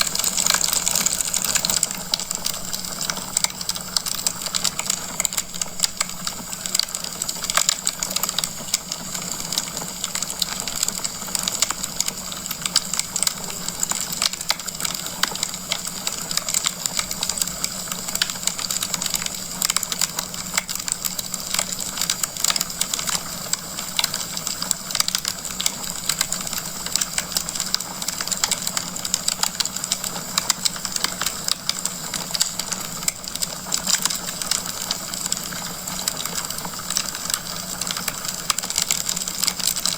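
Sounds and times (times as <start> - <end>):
logs crackling in a fireplace: 0.0 - 39.9.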